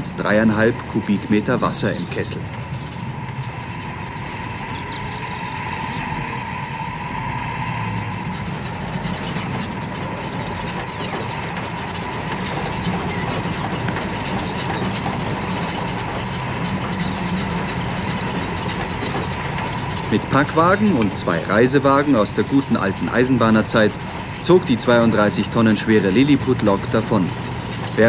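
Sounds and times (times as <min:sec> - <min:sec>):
fine ticking: 0:00.0 - 0:28.0
steam hissing: 0:00.0 - 0:28.0
steam locomotive rumbling: 0:00.0 - 0:28.0.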